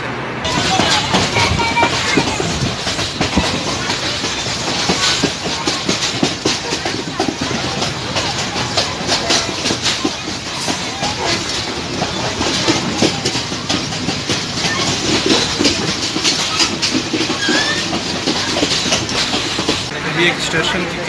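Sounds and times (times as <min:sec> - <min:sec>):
train rumble and rush: 0:00.0 - 0:21.0
wheels clattering over rails: 0:00.4 - 0:21.0.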